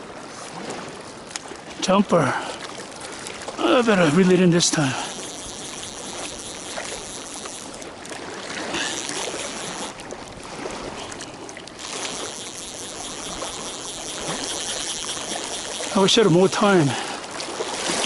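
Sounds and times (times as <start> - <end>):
water splashing and lapping: 0.0 - 18.0.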